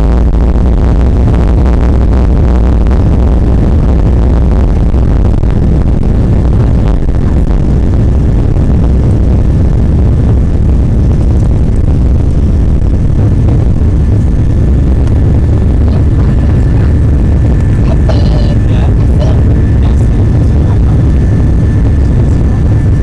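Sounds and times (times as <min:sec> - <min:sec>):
jet engines rumbling at takeoff: 0:00.0 - 0:23.0.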